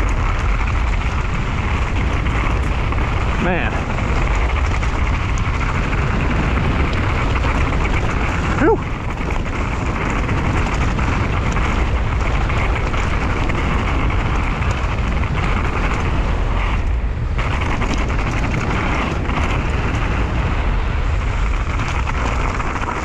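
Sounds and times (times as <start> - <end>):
bike tyres rolling over dirt: 0.0 - 23.0
wind rushing over microphone: 0.0 - 23.0.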